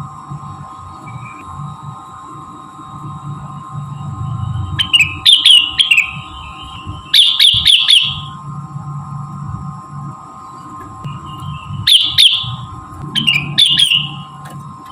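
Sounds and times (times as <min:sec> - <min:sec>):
steady hum: 0:00.0 - 0:14.9.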